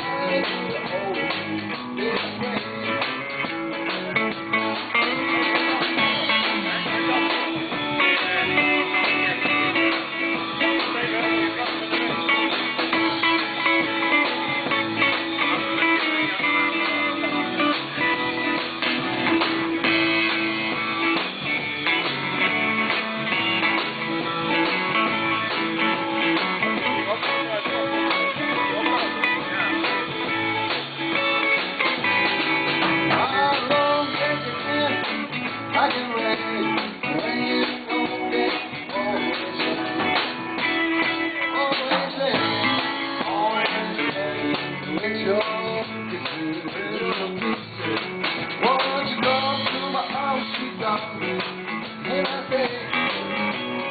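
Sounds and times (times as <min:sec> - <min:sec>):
live band playing: 0:00.0 - 0:53.9
strummed guitar: 0:00.0 - 0:53.9.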